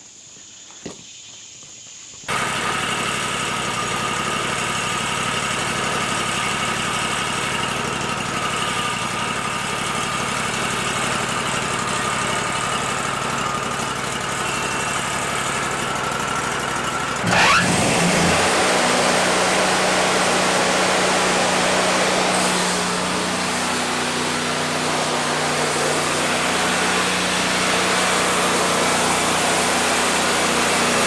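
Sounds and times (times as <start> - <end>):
band sawmill running: 2.3 - 31.0.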